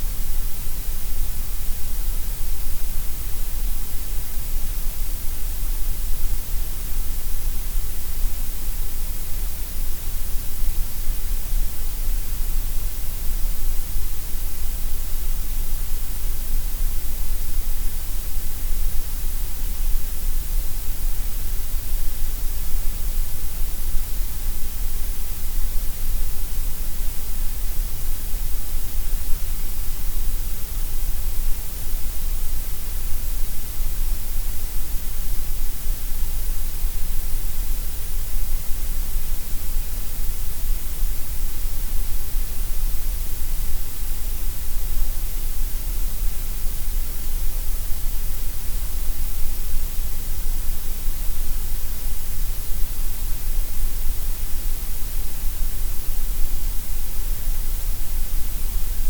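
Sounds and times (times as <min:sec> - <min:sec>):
gray noise hiss: 0:00.0 - 0:59.0.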